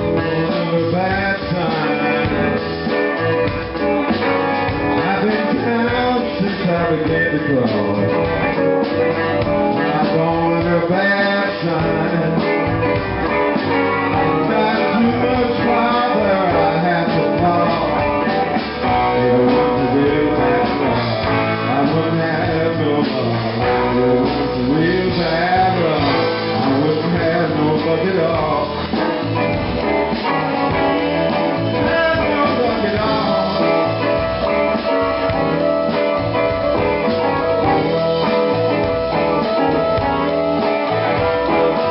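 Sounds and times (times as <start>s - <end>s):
blues band playing: 0.0s - 41.9s
electric guitar bending notes: 0.0s - 41.9s.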